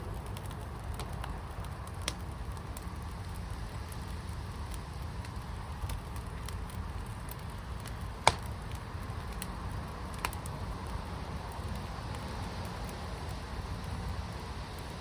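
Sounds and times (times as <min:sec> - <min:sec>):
fire crackling: 0:00.0 - 0:15.0
fire popping: 0:00.0 - 0:15.0
low steady rumble: 0:00.0 - 0:15.0.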